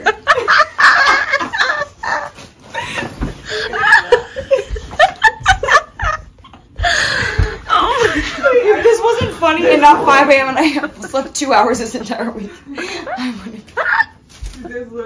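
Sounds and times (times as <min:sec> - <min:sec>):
young women laughing: 0:00.0 - 0:11.4, 0:12.3 - 0:14.3.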